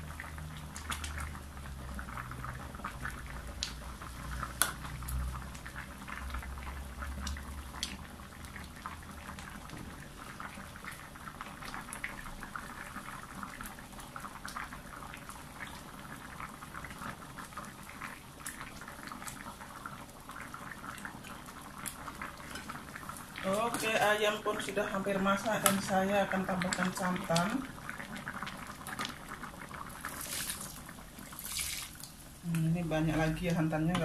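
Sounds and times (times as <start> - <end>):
curry bubbling and popping: 0.0 - 34.0.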